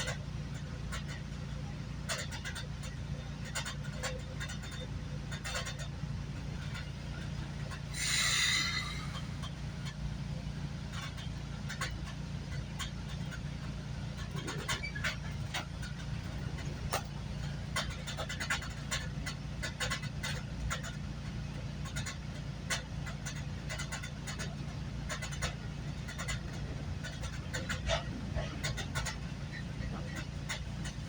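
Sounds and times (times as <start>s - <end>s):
clicks and rattles: 0.0s - 10.0s, 10.9s - 31.0s
train rumbling from inside: 0.0s - 31.0s.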